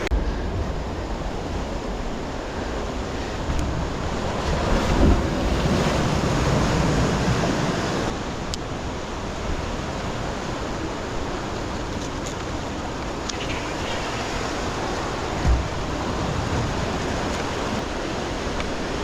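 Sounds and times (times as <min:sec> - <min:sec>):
ocean surf over rocks: 0:00.0 - 0:19.0.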